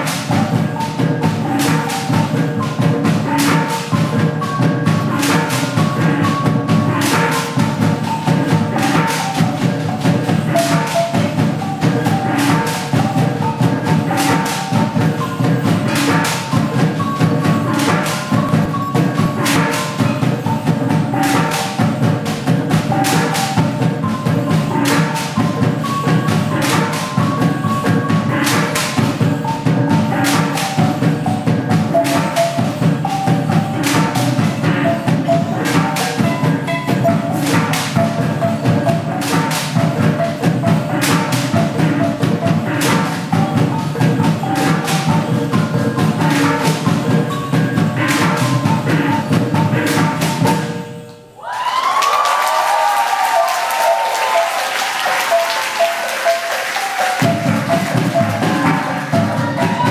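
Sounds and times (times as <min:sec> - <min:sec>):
wooden clacking beat: 0:00.0 - 0:50.8, 0:51.5 - 0:59.9
drums: 0:00.0 - 0:59.9
gong-chime melody: 0:00.3 - 0:51.5.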